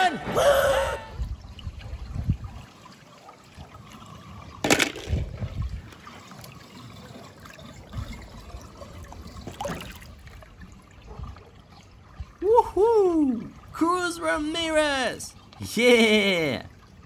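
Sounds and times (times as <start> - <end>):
pool water splashing and sloshing: 0.0 - 17.0.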